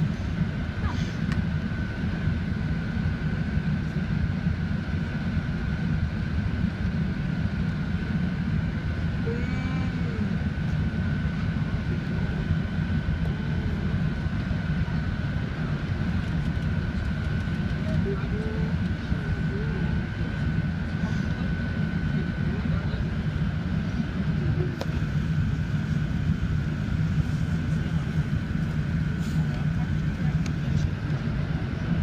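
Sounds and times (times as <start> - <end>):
airplane cabin rumble: 0.0 - 32.0
constant high whine: 0.0 - 32.0.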